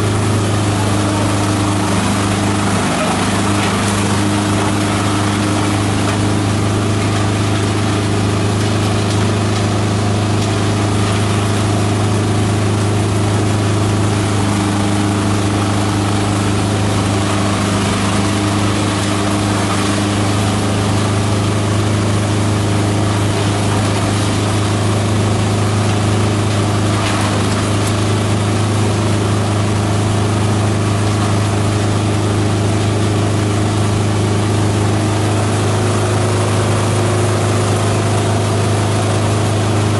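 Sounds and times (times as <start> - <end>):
chopper motor droning: 0.0 - 39.9.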